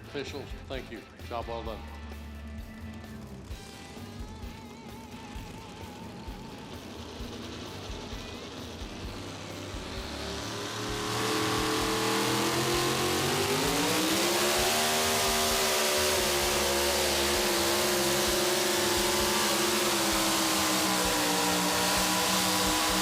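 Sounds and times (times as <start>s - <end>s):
truck engine at full throttle: 0.0s - 23.0s.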